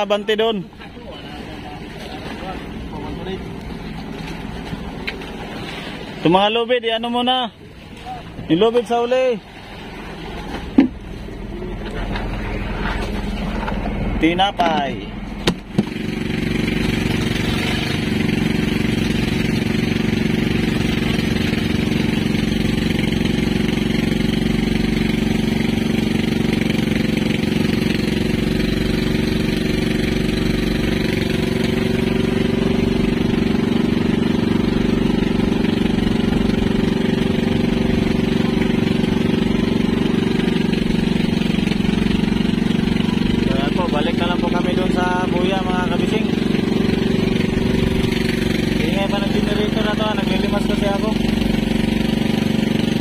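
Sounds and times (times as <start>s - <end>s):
boat engine running: 0.0s - 53.0s
water rushing along hull: 0.0s - 53.0s.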